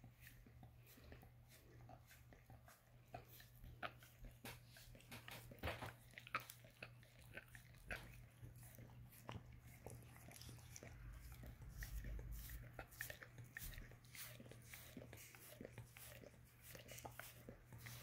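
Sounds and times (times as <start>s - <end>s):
dog licking wet smacks: 0.0s - 18.0s.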